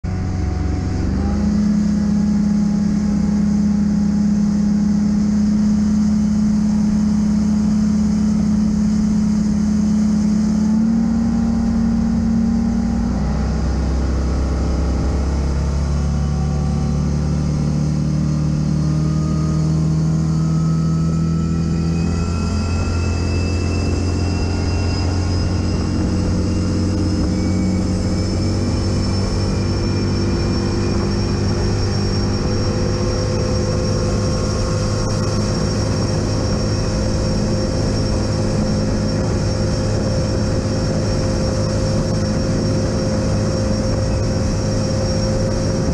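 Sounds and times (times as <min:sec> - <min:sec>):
high supercharger whine: 0:00.0 - 0:45.9
speedboat engine running hard: 0:00.0 - 0:45.9.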